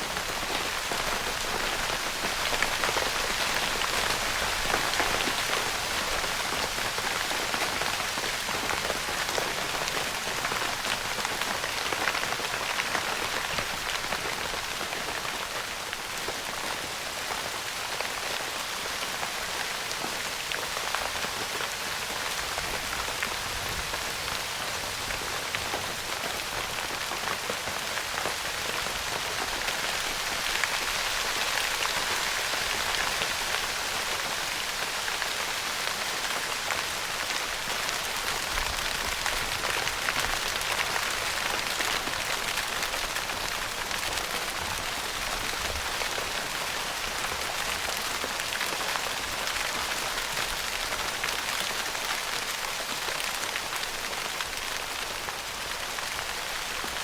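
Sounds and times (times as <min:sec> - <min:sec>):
rain pattering on tent fabric: 0:00.0 - 0:57.0.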